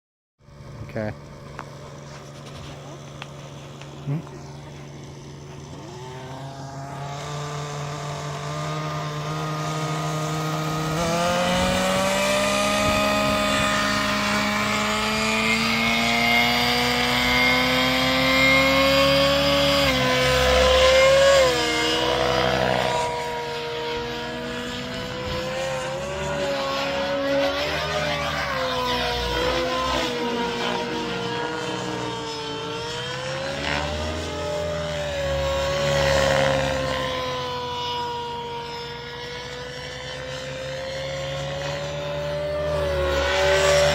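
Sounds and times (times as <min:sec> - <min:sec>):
rc helicopter nitro engine running: 0:00.4 - 0:43.9.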